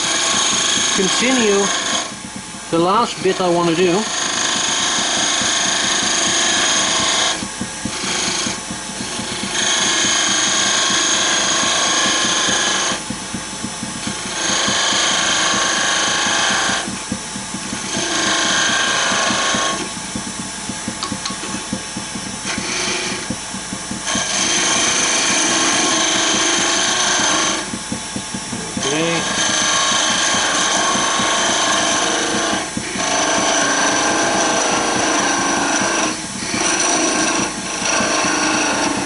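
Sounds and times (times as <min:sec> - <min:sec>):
lathe low hum: 0:00.0 - 0:39.0
turning tool cutting wood: 0:00.0 - 0:39.0.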